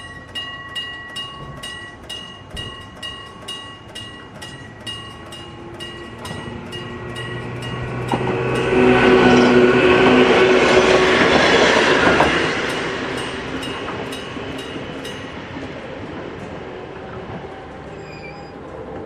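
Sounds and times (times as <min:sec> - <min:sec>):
electric train passing: 0:00.0 - 0:19.0
wheels clicking over rail joints: 0:00.0 - 0:19.0.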